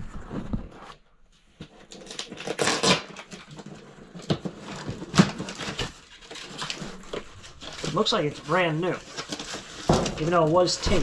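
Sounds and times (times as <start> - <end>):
cardboard ripping rustle: 1.7 - 11.0.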